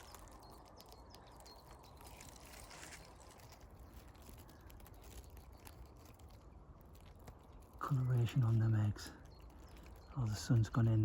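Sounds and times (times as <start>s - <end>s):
soft clicks and rustles: 0.0s - 11.0s.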